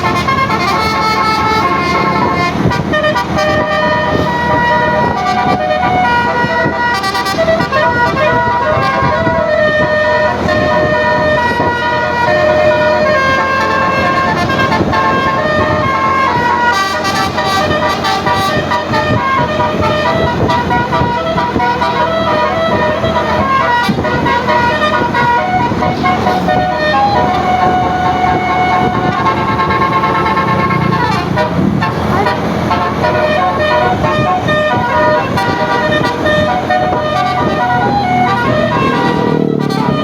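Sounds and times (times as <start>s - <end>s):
multi-tone bus horn tune: 0.0s - 40.0s.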